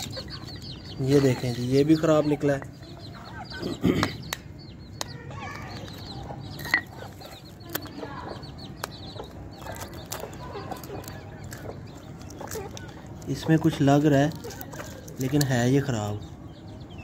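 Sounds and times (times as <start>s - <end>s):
chickens clucking: 0.0s - 17.0s
high peeping calls: 0.0s - 17.0s.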